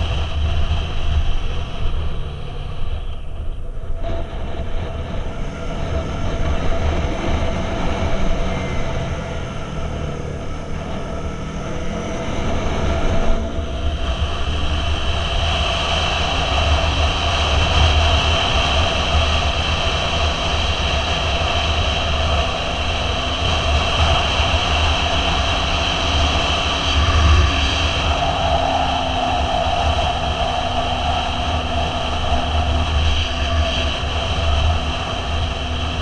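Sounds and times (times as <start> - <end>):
motorcycle engine revving: 0.0 - 36.0
wind rush on microphone: 0.0 - 36.0.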